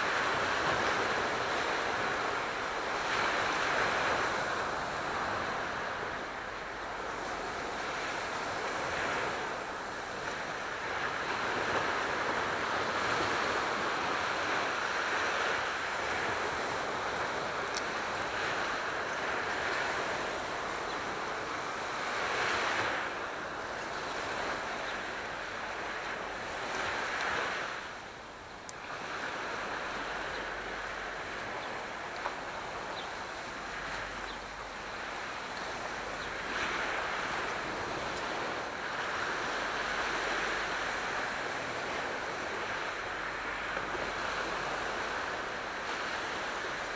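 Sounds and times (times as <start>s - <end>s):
waves washing in: 0.0s - 46.9s.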